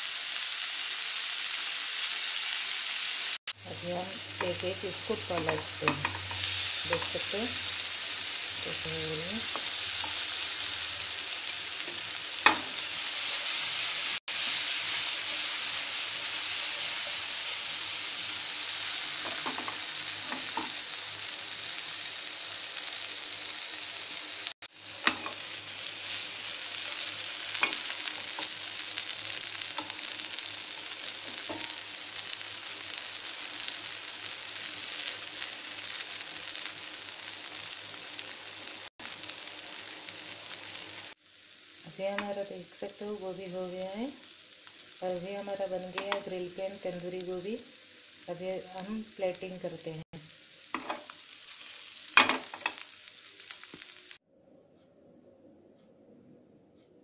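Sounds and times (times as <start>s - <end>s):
vegetables sizzling in oil: 0.0s - 54.2s.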